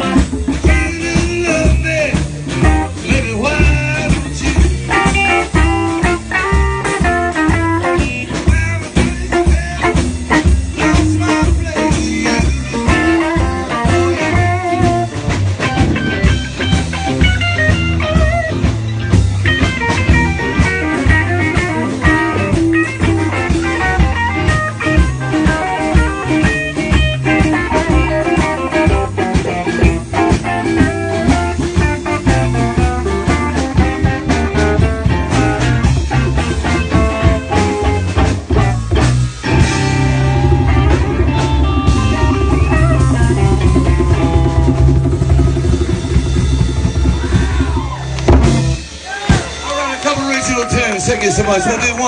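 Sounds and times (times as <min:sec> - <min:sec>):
bass: 0:00.0 - 0:52.0
drum kit steady beat: 0:00.0 - 0:52.0
electric guitar lead: 0:00.0 - 0:52.0.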